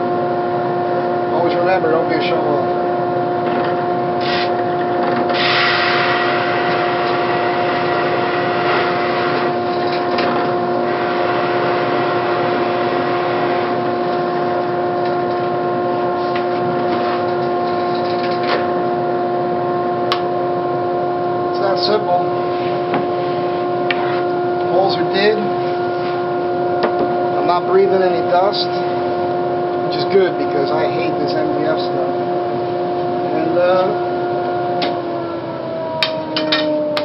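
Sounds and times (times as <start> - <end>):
dust collector and drill press hum: 0.0 - 37.0.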